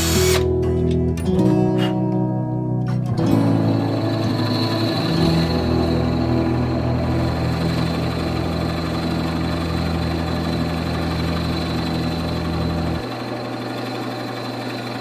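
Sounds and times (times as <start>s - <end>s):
drill press motor humming: 0.0s - 0.6s, 3.3s - 15.0s.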